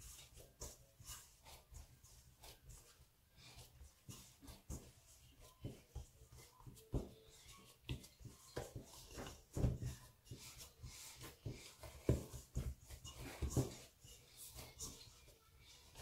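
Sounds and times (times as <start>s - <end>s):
hands kneading sticky dough: 0.0s - 16.0s.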